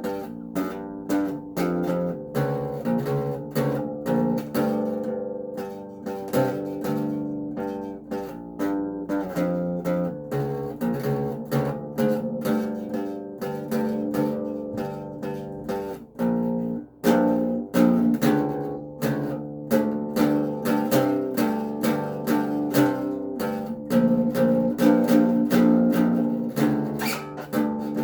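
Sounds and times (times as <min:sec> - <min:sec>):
acoustic bass guitar plucked: 0:00.0 - 0:28.0.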